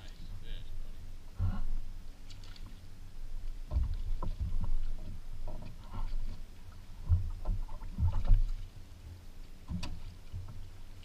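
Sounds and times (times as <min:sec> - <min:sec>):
water slapping against a hull: 0:01.3 - 0:11.0.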